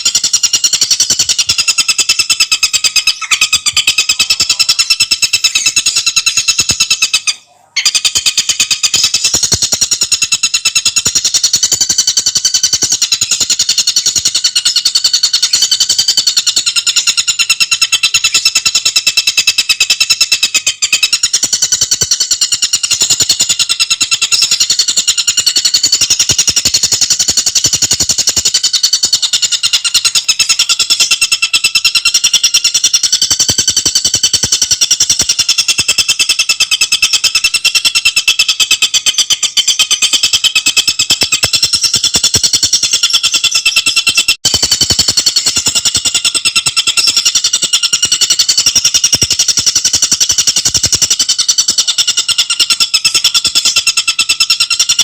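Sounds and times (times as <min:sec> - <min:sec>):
bird rattling trill: 0:00.0 - 0:07.2, 0:07.8 - 0:55.0.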